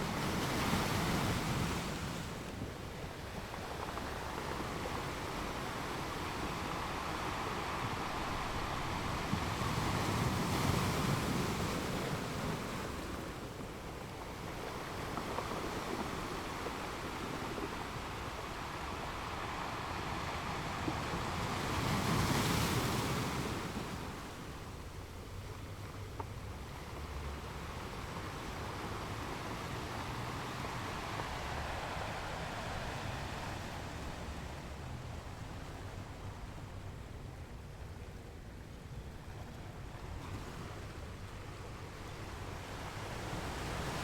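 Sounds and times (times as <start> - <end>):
ocean waves breaking on beach: 0.0 - 37.1, 39.4 - 44.0.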